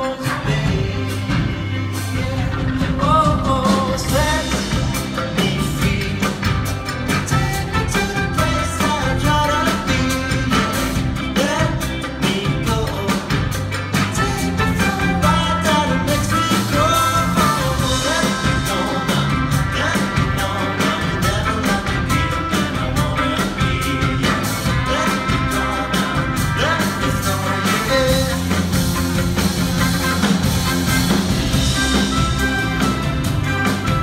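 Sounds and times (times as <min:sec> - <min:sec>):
person singing: 0:00.0 - 0:29.0
acoustic guitar: 0:00.0 - 0:34.0
drums: 0:00.0 - 0:34.0
electric bass: 0:00.0 - 0:34.0
electric guitar: 0:00.0 - 0:34.0.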